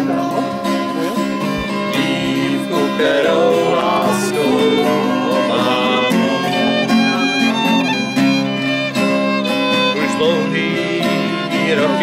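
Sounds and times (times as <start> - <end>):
fiddle playing melody: 0.0 - 12.0
strummed acoustic guitar: 0.0 - 12.0.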